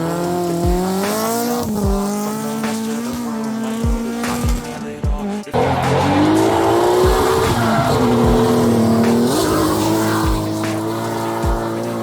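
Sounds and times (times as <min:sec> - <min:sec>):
race car engine at high revs: 0:00.0 - 0:12.0
bass thumps of music: 0:00.6 - 0:12.0.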